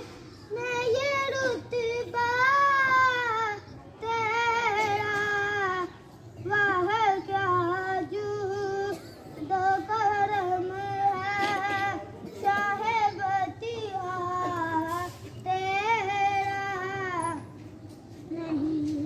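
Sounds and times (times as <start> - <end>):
boy chanting: 0.3 - 17.6, 18.2 - 19.0.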